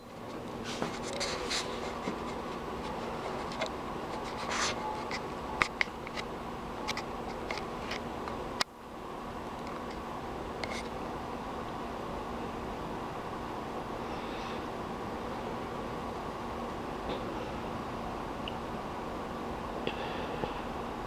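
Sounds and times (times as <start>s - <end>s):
background hum: 0.0s - 21.0s.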